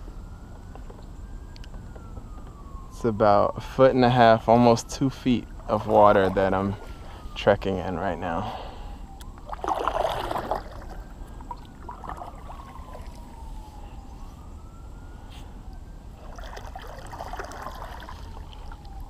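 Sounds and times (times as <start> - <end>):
distant siren wailing: 0.0 - 19.0.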